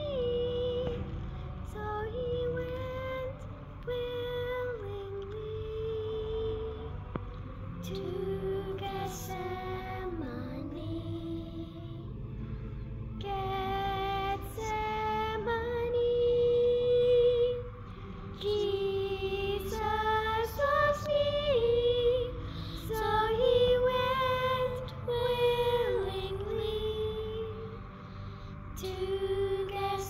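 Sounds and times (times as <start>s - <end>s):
girls singing: 0.0s - 28.0s, 28.6s - 30.0s.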